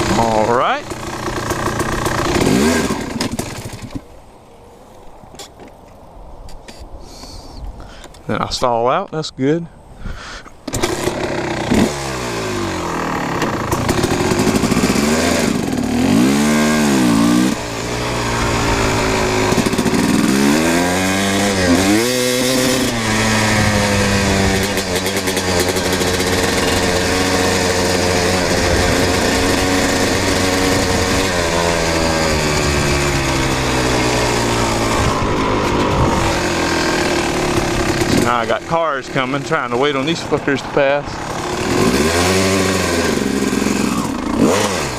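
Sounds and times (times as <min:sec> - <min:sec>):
dirt bike engine revving: 0:00.0 - 0:04.0, 0:10.6 - 0:44.9.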